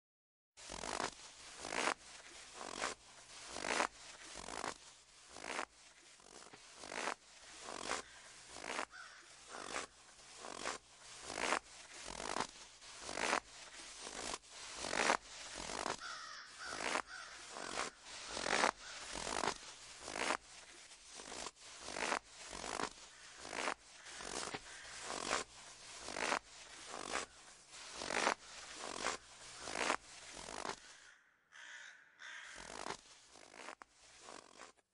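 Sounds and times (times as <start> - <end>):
footsteps crunching through snow: 0.6 - 31.1, 32.2 - 34.9.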